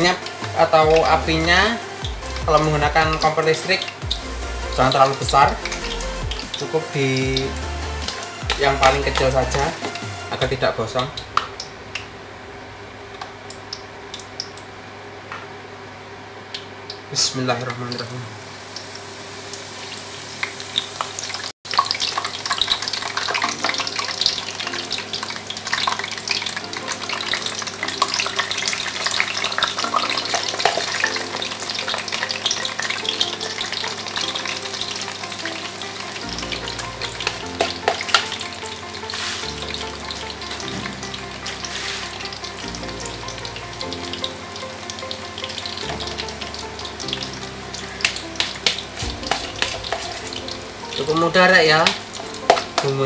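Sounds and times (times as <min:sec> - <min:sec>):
batter sizzling in hot oil: 0:00.0 - 0:12.1, 0:16.6 - 0:53.0.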